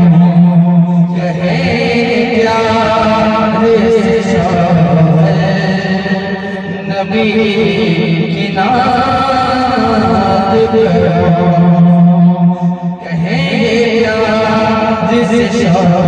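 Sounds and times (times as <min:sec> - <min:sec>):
man singing through a microphone: 0:00.0 - 0:16.0.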